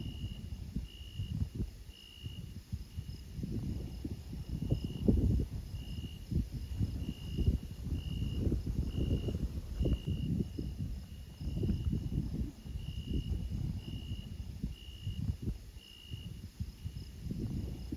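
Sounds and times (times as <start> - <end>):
crickets chirping: 0.0 - 17.9.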